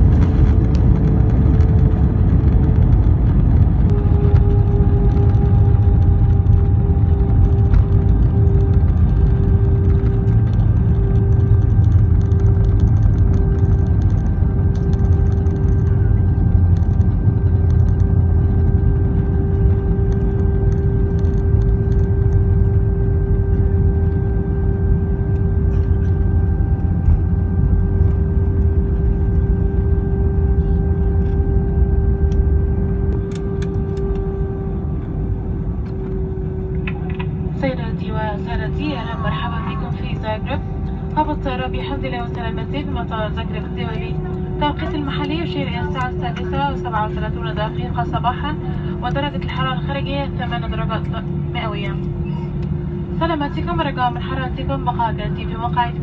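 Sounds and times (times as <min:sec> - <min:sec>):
aircraft engine hum: 0:00.0 - 0:56.0
deep rumble: 0:00.0 - 0:56.0
steady whining tone: 0:00.0 - 0:56.0.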